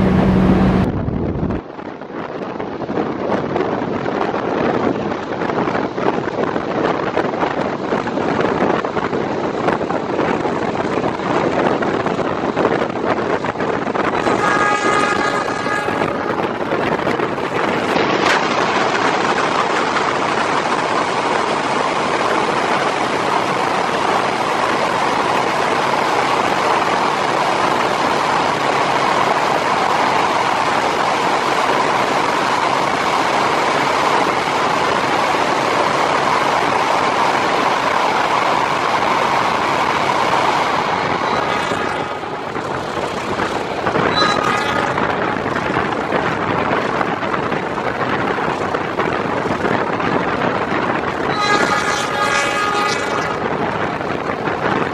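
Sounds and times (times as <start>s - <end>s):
passenger train running: 0.0s - 54.9s.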